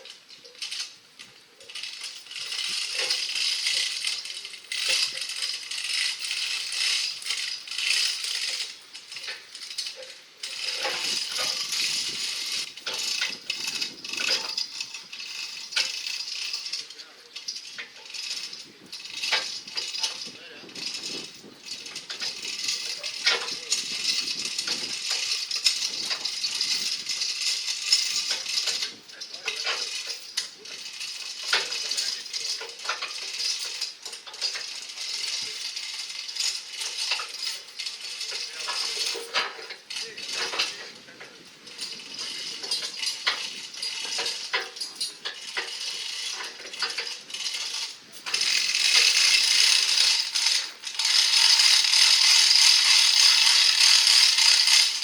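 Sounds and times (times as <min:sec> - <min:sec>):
rapid mechanical clicking and rattling: 0:00.0 - 0:55.0.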